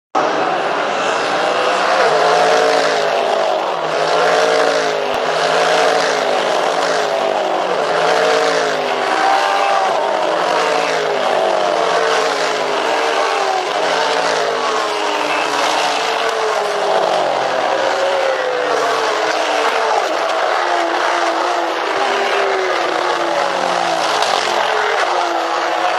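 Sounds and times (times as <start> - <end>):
race car engines passing: 0.2 - 25.9.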